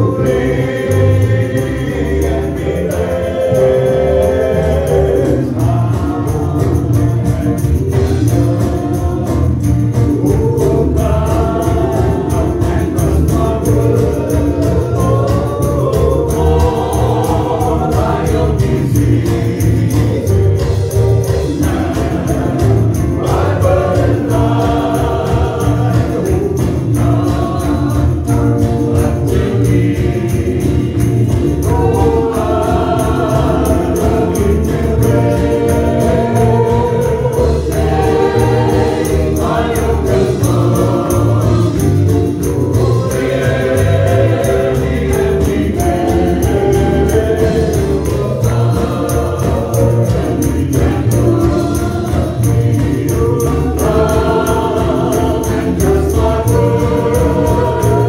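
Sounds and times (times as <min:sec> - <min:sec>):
choir singing a hymn: 0:00.0 - 0:58.0
instrumental accompaniment with beat: 0:00.0 - 0:58.0.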